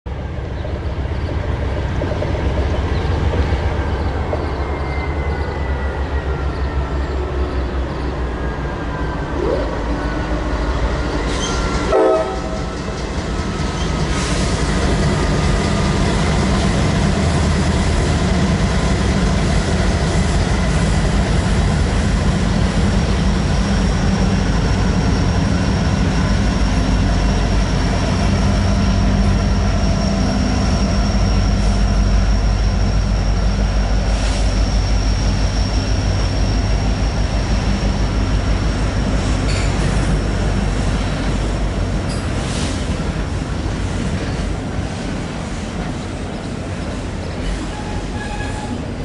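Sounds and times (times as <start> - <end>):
diesel locomotives on steel bridge: 0.1 - 49.0.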